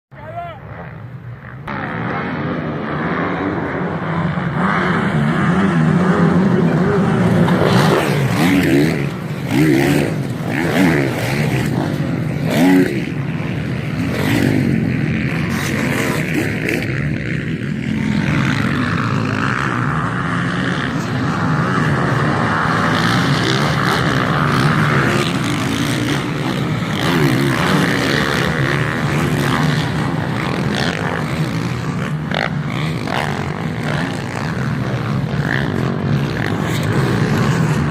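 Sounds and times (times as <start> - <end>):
motocross bikes revving past: 0.2 - 37.9.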